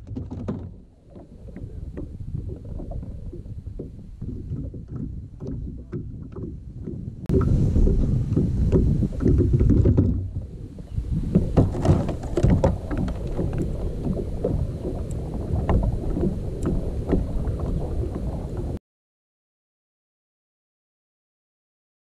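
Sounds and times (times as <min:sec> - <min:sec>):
water sounds: 0:00.0 - 0:18.8
wind rumbling on microphone: 0:00.0 - 0:18.8.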